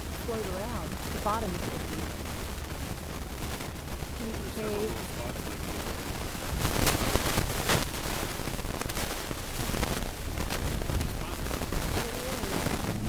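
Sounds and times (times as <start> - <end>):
motorboat engine hum: 0.0 - 13.0
wind buffeting microphone: 0.0 - 13.0.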